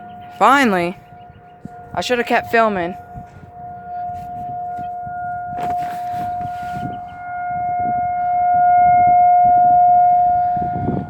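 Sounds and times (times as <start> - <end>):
warning siren steady tone: 0.0 - 11.0.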